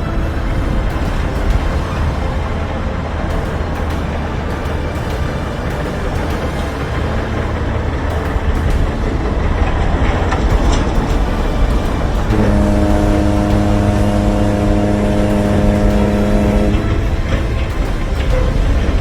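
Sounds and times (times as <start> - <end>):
steady horn: 0.0 - 19.0
vehicle engine rumble: 0.0 - 19.0.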